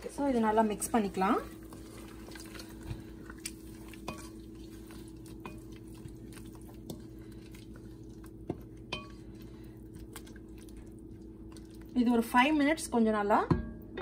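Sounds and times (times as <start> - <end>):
steady low hum: 0.0 - 14.0
spatula stirring paste in pot: 0.4 - 12.0.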